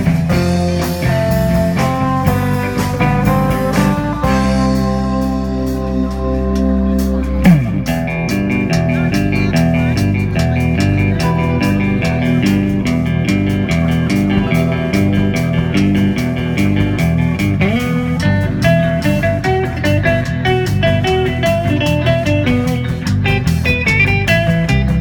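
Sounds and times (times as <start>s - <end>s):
blues-rock band playing: 0.0s - 25.0s
rising guitar slide: 1.8s - 25.0s.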